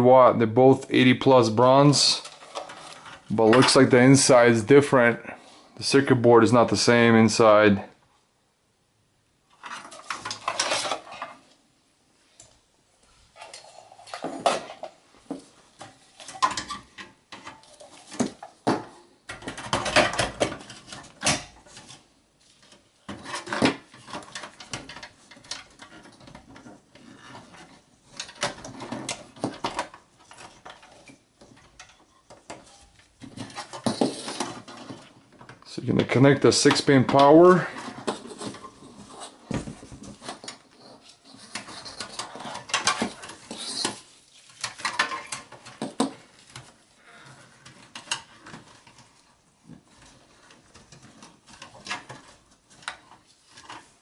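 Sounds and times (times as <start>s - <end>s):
cables being handled: 1.2s - 4.9s, 12.4s - 54.0s.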